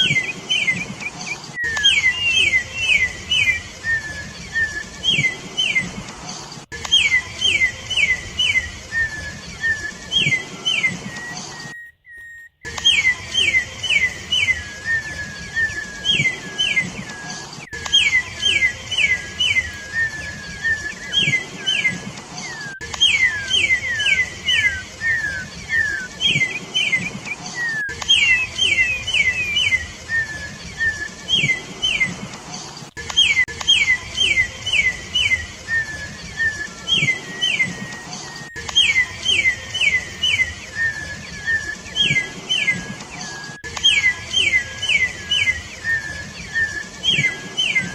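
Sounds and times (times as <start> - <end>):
bird singing whistled notes: 0.0 - 6.1, 6.7 - 32.3, 32.9 - 47.9.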